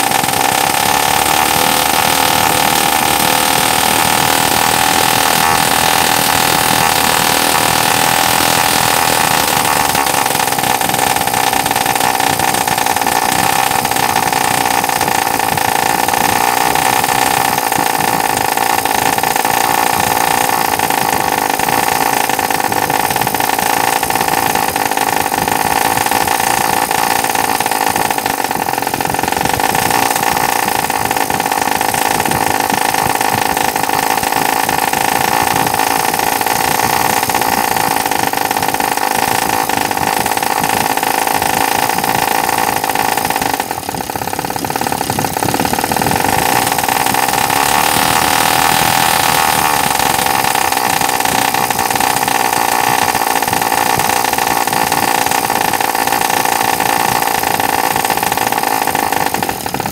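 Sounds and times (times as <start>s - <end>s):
small two-stroke engine buzzing: 0.0s - 59.9s.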